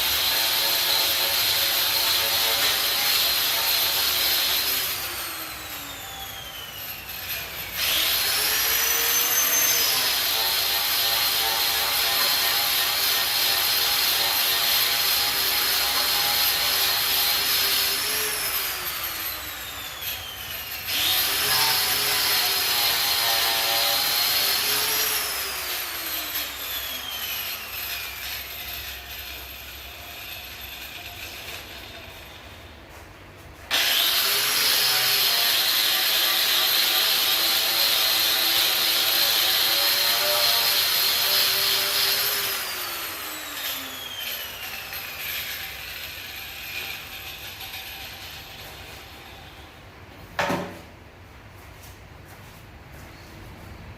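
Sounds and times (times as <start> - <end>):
angle grinder on steel: 0.0 - 32.8, 33.6 - 49.8.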